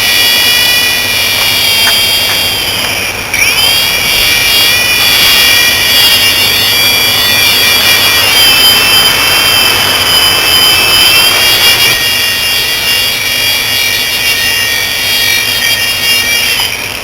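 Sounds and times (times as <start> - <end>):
toy helicopter motors whining: 0.0 - 17.0.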